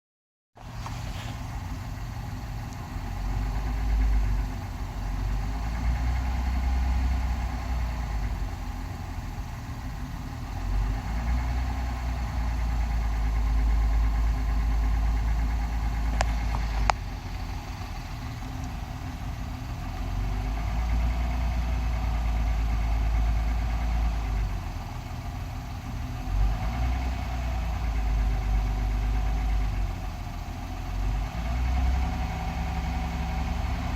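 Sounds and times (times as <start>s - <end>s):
car engine idling with knock: 0.6s - 33.9s.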